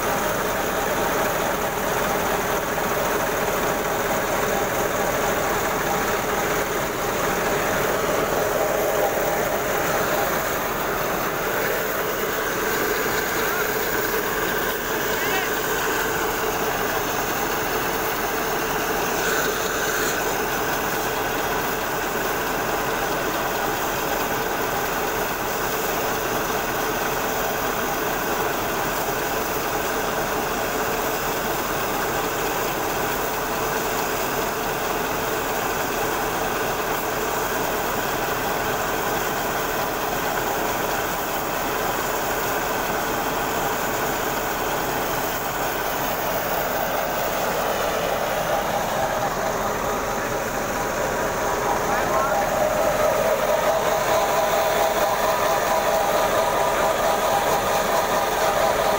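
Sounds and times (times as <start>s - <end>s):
threshing machine whirring: 0.0s - 29.7s, 36.4s - 58.9s.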